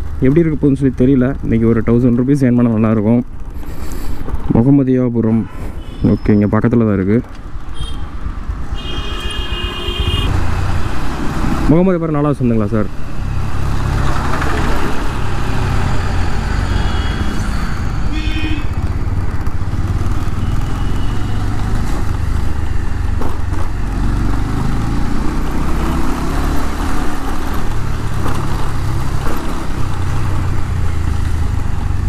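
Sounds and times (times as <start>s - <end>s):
motorcycle engine rumble: 5.8s - 32.0s.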